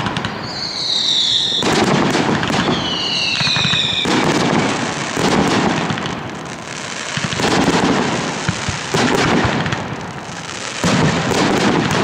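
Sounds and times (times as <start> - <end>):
firework shells booming: 0.0 - 12.0
sharp firework cracks: 0.0 - 12.0.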